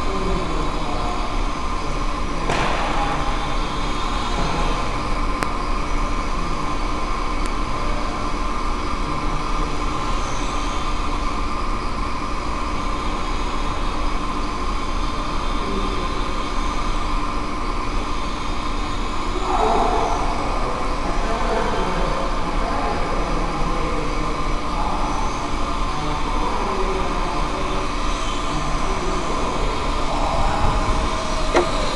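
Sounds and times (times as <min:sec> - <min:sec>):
quadcopter motors buzzing: 0:00.0 - 0:31.9.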